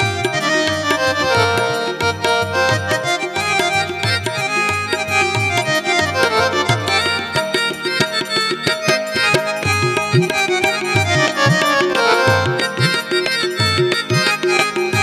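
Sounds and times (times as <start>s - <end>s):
electronic keyboard melody: 0.0s - 15.0s
tabla drumming: 0.0s - 15.0s.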